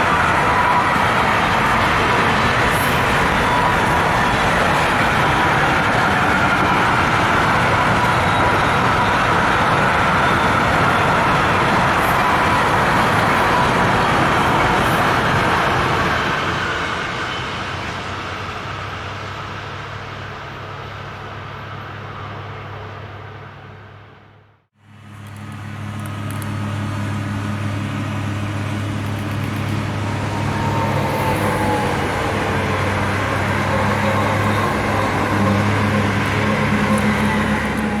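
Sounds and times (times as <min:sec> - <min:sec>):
train wheels on rails: 0:00.0 - 0:24.2, 0:25.1 - 0:38.0.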